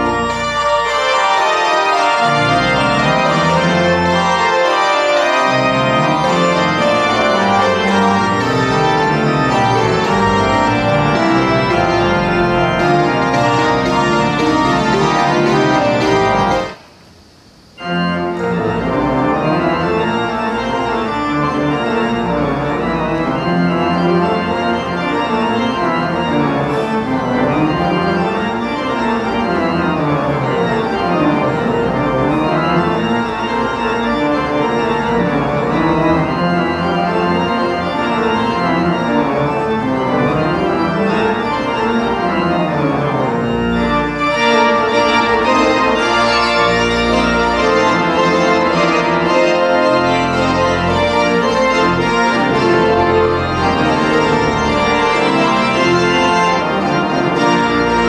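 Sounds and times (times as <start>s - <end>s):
organ playing sustained chords: 0.0s - 16.8s, 17.6s - 58.0s.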